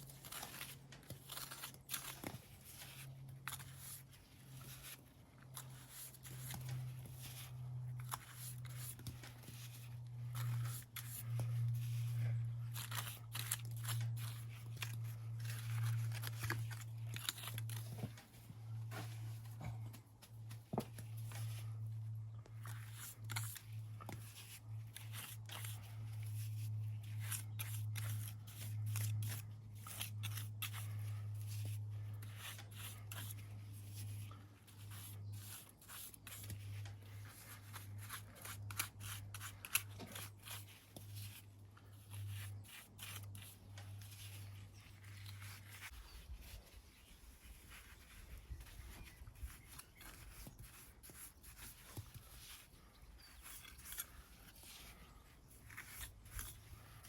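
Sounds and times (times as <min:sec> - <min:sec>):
hand tools scraping on stone: 0:00.0 - 0:18.2, 0:22.5 - 0:57.0.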